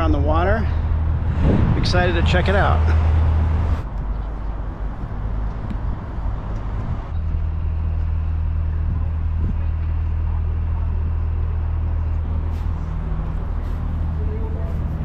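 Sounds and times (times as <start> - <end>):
outdoor background noise: 0.0 - 15.0
low mechanical hum: 0.2 - 15.0.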